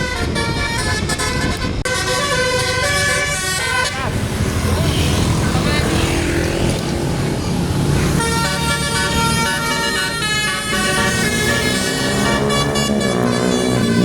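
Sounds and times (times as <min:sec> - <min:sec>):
multi-tone bus horn melody: 0:00.0 - 0:06.0, 0:06.6 - 0:14.0
bus engine running low: 0:00.0 - 0:14.0.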